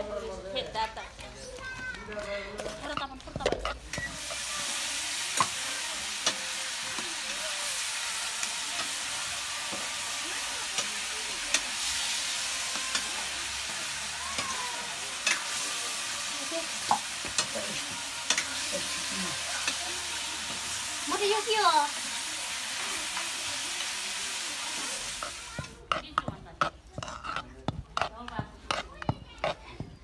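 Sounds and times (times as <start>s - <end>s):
food sizzling in a wok: 2.7s - 27.4s.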